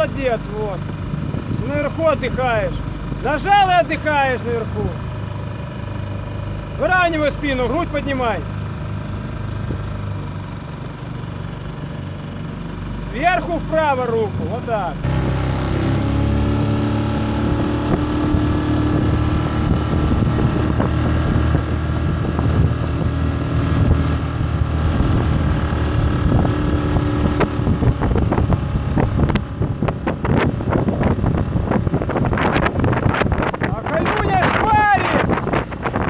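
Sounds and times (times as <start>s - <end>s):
wind buffeting microphone: 0.0s - 12.9s, 15.0s - 36.0s
outboard motor running: 0.0s - 36.0s.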